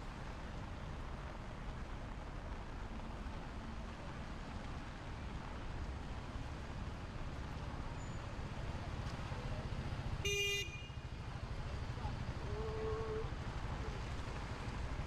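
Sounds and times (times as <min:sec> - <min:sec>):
rain on wet street: 0:00.0 - 0:15.0.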